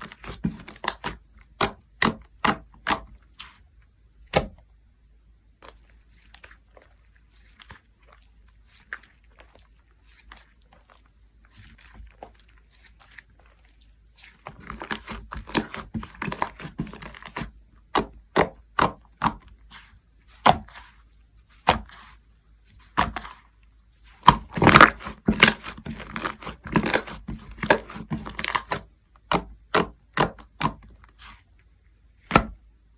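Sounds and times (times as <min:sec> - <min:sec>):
slime squishing with sticky crackles: 0:00.0 - 0:32.9.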